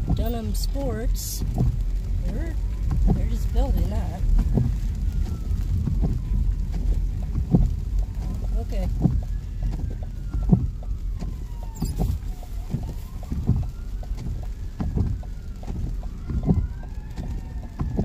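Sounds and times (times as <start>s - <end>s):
car rumble: 0.0s - 18.0s
distant emergency siren wailing: 0.0s - 18.0s
windshield wipers knocking: 0.0s - 18.0s.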